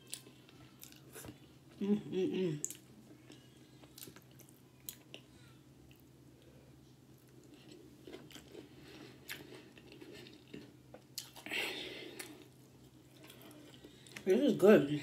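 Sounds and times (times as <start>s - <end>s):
person chewing food: 0.0s - 1.8s, 2.6s - 14.2s.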